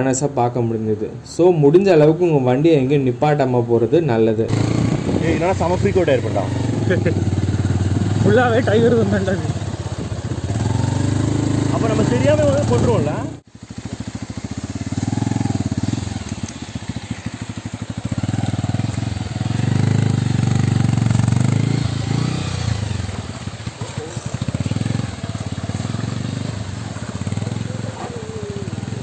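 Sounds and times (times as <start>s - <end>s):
motorcycle engine revving: 4.5s - 29.0s.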